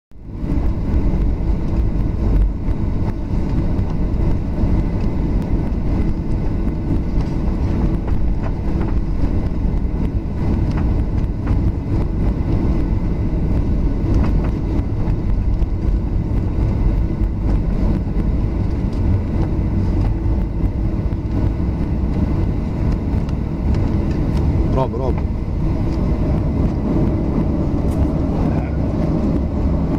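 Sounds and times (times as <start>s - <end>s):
aircraft engines low rumble: 0.1s - 29.9s
faint steady whine: 0.2s - 29.9s
wheels rolling on taxiway: 0.2s - 29.9s.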